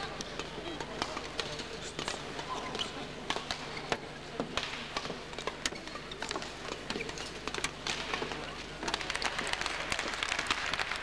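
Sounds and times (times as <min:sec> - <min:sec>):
rackets hitting shuttlecock: 0:00.0 - 0:10.8
indoor arena hum: 0:00.0 - 0:11.0.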